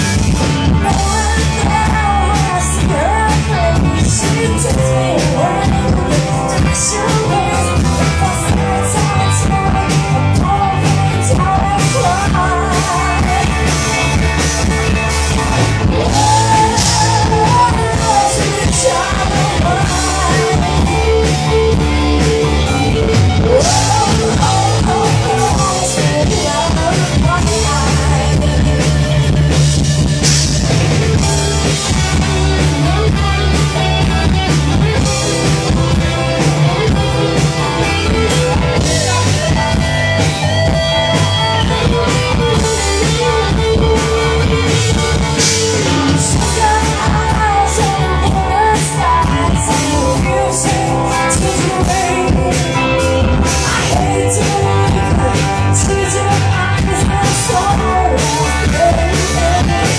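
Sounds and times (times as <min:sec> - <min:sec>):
bass guitar: 0:00.0 - 0:59.9
drum kit with cymbal hits: 0:00.0 - 0:59.9
electric guitars: 0:00.0 - 0:59.9
person singing: 0:00.0 - 0:59.9.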